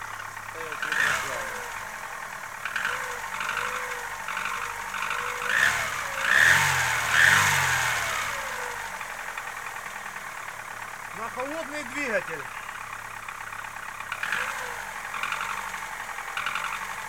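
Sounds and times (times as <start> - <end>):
car engine running with knock: 0.0 - 17.0
engine revving: 0.0 - 17.0.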